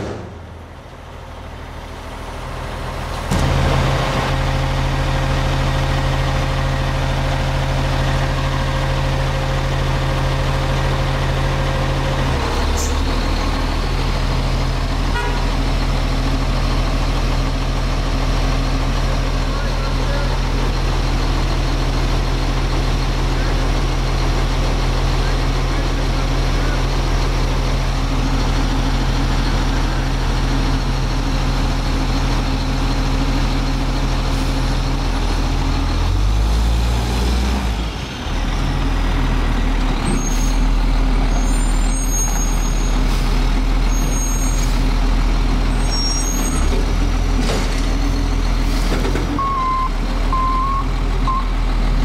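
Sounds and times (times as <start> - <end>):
garbage truck diesel engine: 0.0 - 52.0.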